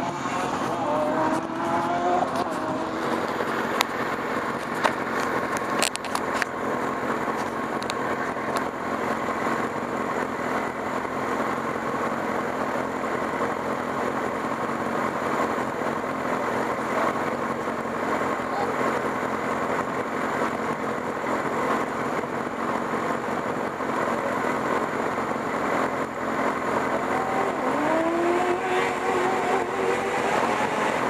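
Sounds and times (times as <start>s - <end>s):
kart engine idling: 0.0s - 31.0s.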